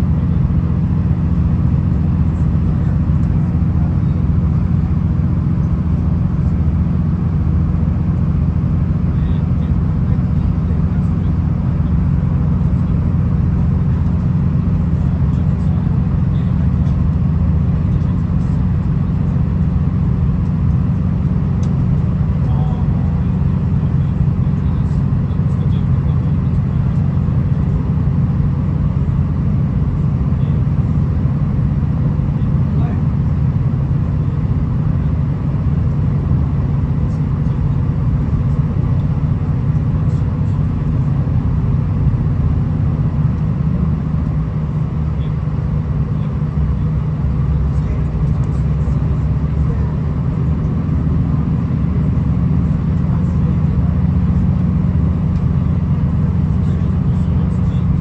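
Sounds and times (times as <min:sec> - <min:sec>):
diesel railcar rumbling: 0:00.0 - 0:58.0.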